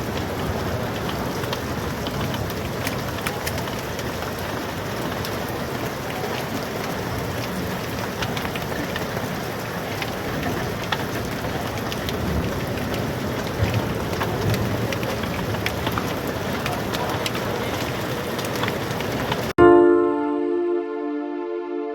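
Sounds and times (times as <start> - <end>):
hailstones striking hard surfaces: 0.0 - 19.5
heavy rain: 0.0 - 19.6.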